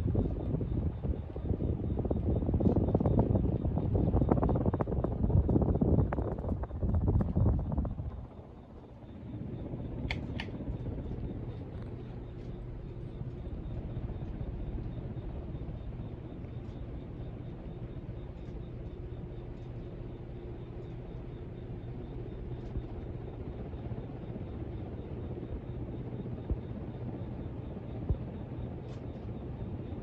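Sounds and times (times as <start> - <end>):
ceiling fan motor hum: 0.0 - 30.0.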